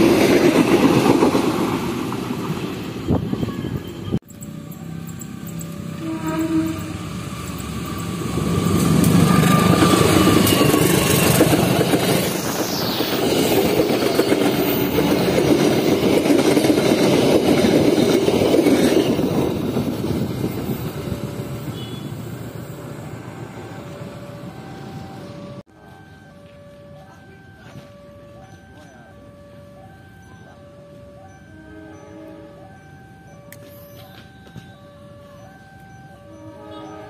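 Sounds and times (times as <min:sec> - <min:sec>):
diesel locomotive engine: 0:00.0 - 0:37.0.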